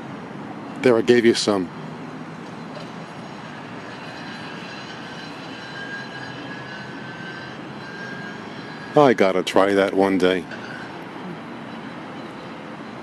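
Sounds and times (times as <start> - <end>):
engine drone: 0.0 - 13.0
faint high whine: 0.0 - 13.0.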